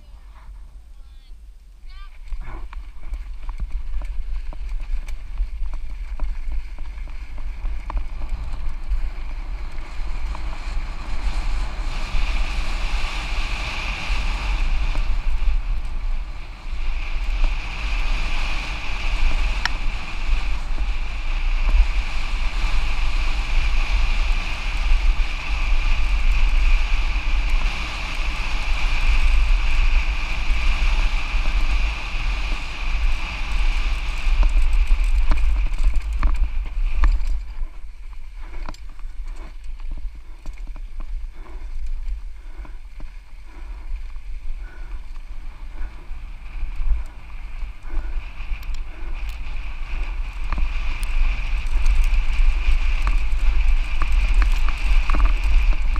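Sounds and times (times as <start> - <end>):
bike rattle and tyre noise: 0.0 - 55.9
wind buffeting microphone: 0.0 - 55.9.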